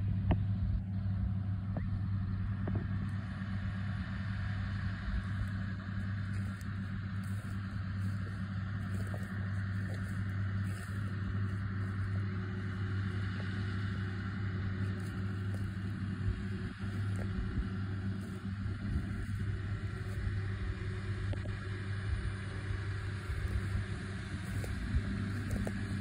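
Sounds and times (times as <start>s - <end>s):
tractor engine droning: 0.0s - 26.0s.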